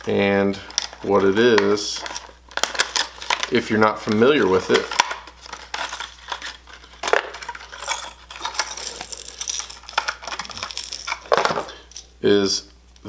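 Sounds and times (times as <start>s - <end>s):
plastic package clicking: 0.7s - 12.0s.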